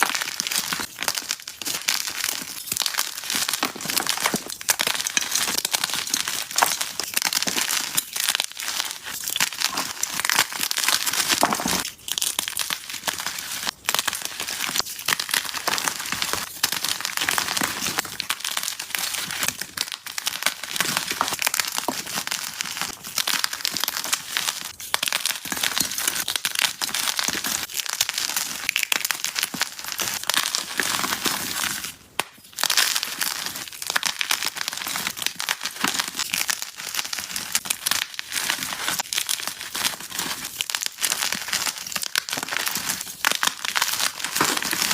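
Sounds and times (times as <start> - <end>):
chalk blocks being crushed: 0.0 - 44.9.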